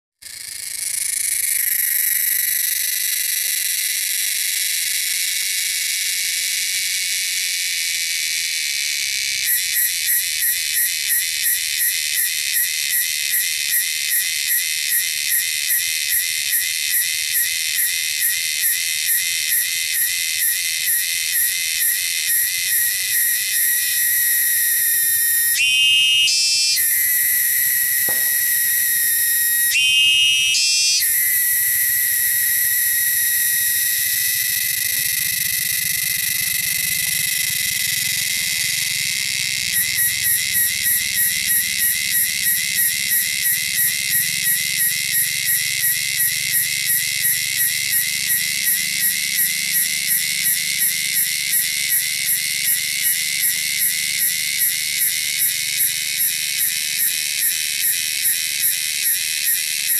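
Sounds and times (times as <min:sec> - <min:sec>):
cicada buzzing: 0:00.2 - 0:59.9.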